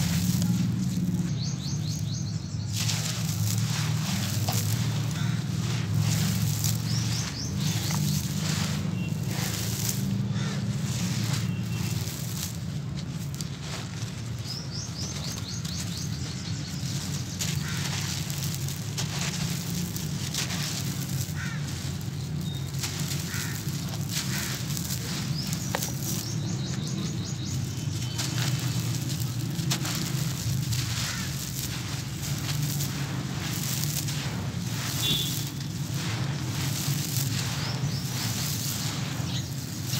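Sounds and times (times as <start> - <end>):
grit trickling onto pile: 0.0 - 39.9
hands crunching gritty sand: 0.0 - 39.9
small crackles: 0.0 - 39.9.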